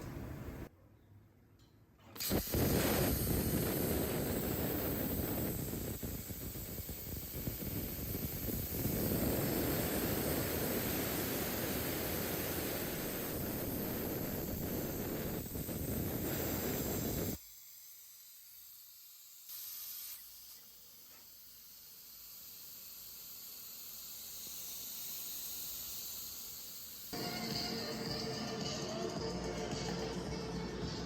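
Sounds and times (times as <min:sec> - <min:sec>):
plasma cutter hissing: 0:02.1 - 0:28.5.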